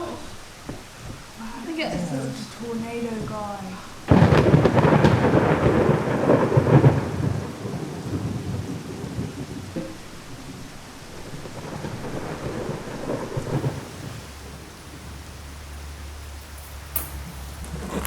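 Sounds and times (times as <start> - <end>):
low rolling thunder: 0.0 - 18.0
steady rain: 0.0 - 18.0.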